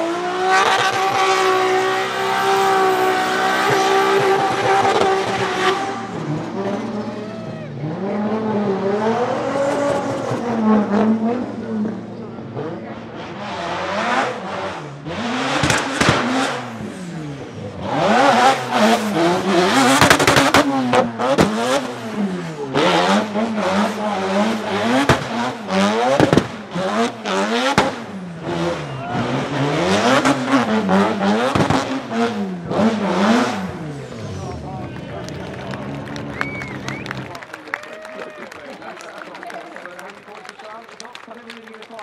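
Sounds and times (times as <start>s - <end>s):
car engine revving: 0.0s - 37.5s.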